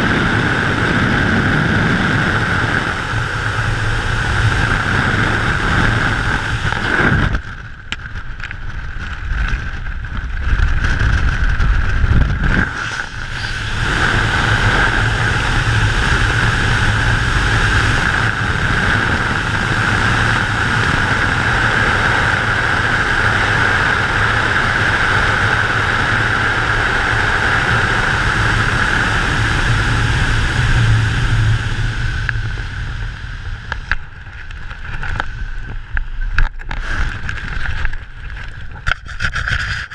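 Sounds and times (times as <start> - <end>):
wind noise rushing: 0.0 - 7.9, 8.9 - 39.9
low rumble: 0.0 - 39.1.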